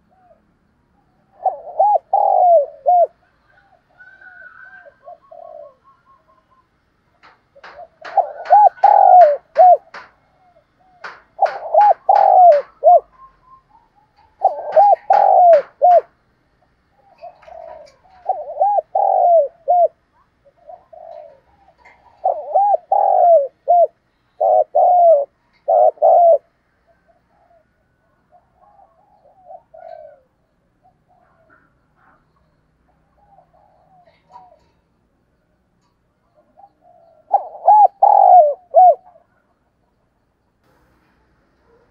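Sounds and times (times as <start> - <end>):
dove cooing: 0.0 - 16.2, 16.8 - 34.9, 36.2 - 39.6.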